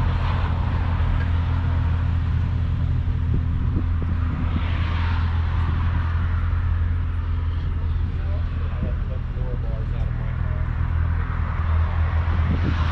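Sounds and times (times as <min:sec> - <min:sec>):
vehicle engine rumbling: 0:00.0 - 0:12.9.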